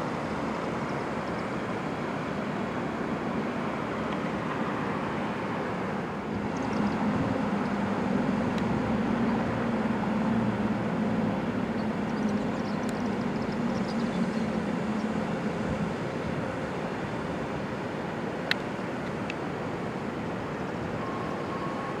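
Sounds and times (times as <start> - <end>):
city noise: 0.0 - 22.0.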